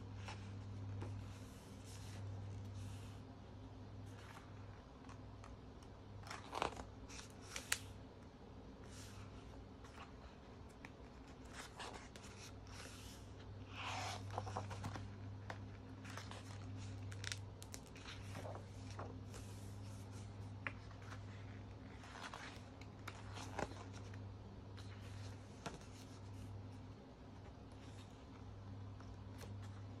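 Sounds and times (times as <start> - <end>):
steady low hum: 0.0 - 30.0
book pages turning: 0.1 - 3.2, 4.0 - 8.0, 8.8 - 26.8, 27.4 - 30.0.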